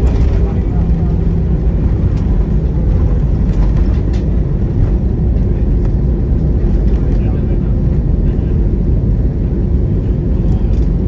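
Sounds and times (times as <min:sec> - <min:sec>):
aircraft cabin low rumble: 0:00.0 - 0:11.0.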